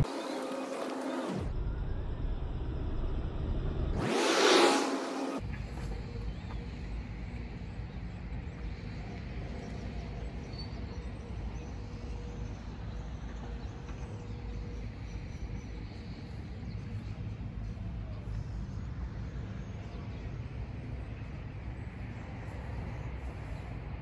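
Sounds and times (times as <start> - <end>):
road traffic rumble: 3.3 - 24.0.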